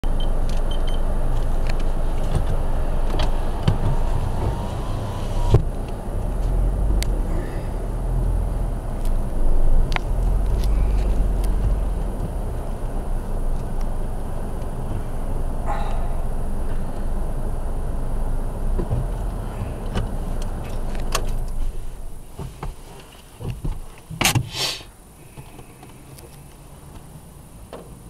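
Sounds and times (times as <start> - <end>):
car wash rumble: 0.1 - 28.0.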